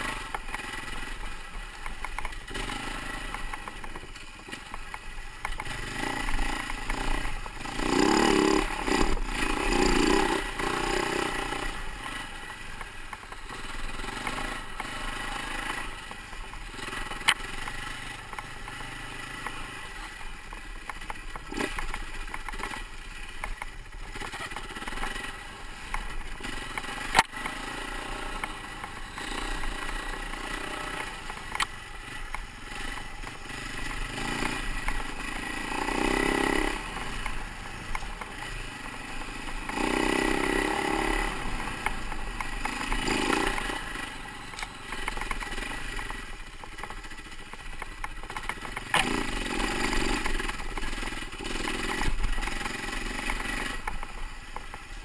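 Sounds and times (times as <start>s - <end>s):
dirt bike engine running: 0.0s - 55.0s.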